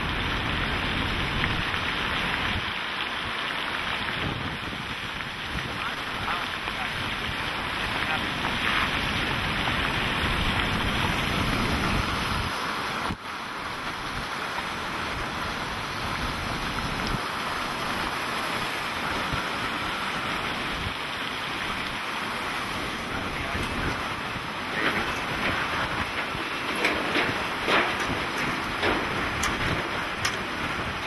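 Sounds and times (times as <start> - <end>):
wind and rain buffeting vehicle: 0.0 - 31.0
wind hitting microphone: 4.0 - 13.2, 15.0 - 31.0.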